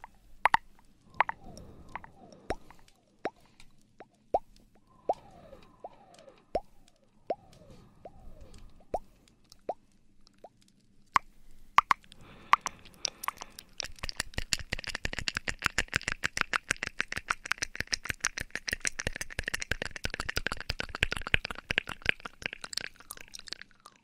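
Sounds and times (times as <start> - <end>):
rapid crackling clicks: 0.0 - 24.0.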